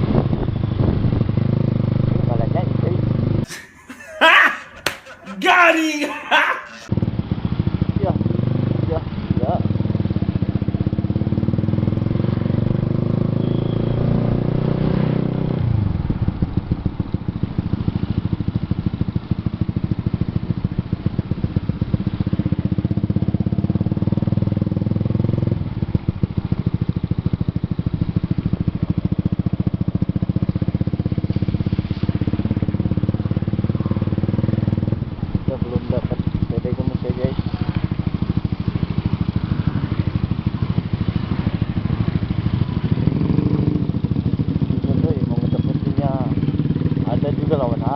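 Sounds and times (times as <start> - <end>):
motorcycle engine running: 6.9 - 47.9.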